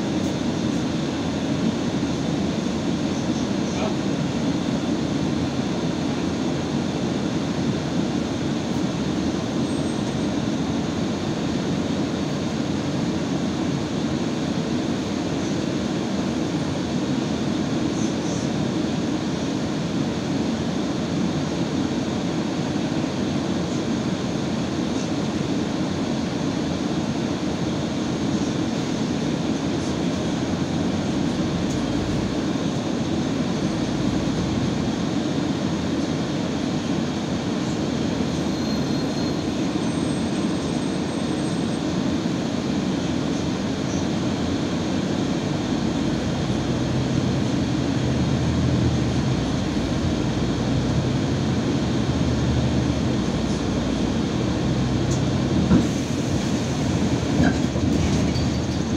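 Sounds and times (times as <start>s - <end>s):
bus engine idling: 0.0s - 58.9s.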